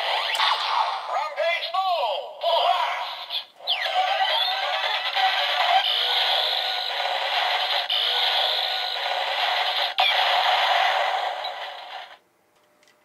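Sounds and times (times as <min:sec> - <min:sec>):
toy gun electronic sound effect: 0:00.0 - 0:00.8, 0:02.6 - 0:12.2.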